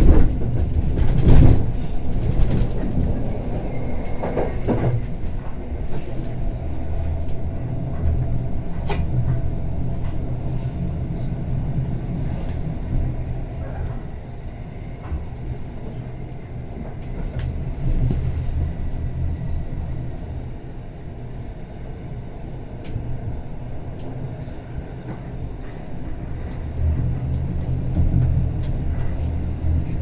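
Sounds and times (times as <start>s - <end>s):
train coach rumbling on track: 0.0s - 30.0s.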